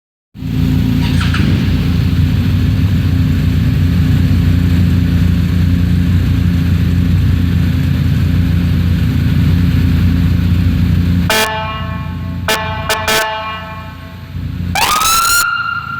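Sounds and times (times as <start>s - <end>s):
vehicle engine idling: 0.4s - 15.9s.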